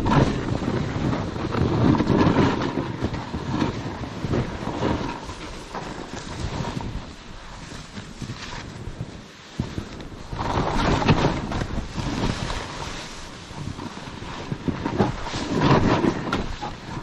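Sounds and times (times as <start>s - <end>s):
skis scraping through snow: 0.0s - 17.0s
wind buffeting microphone: 0.0s - 17.0s.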